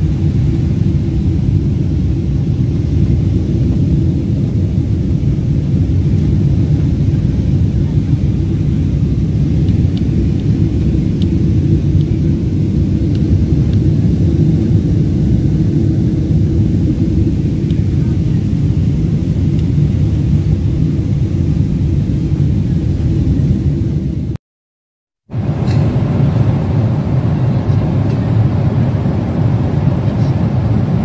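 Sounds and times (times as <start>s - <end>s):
airplane cabin rumble: 0.0s - 24.4s, 25.2s - 31.0s.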